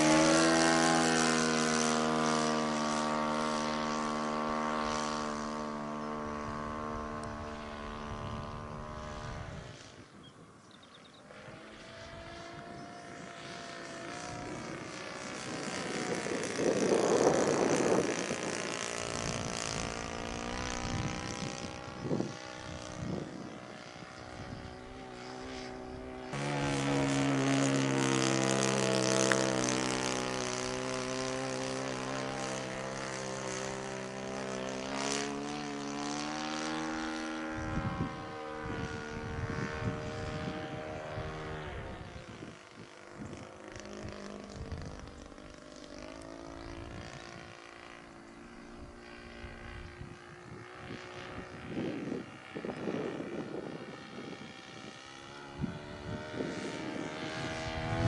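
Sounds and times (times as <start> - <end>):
model plane engine in flight: 0.0 - 58.0
propeller buzzing: 0.0 - 58.0.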